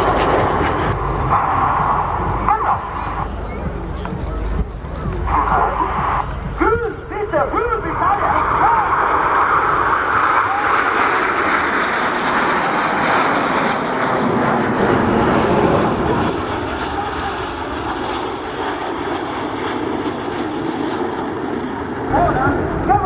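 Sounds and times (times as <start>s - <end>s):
plane flying past: 0.0s - 23.0s.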